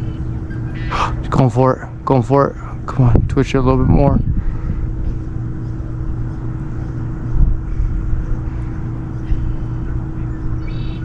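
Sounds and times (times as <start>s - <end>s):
engine-like drone: 0.0s - 11.0s
low rumble: 0.0s - 11.0s.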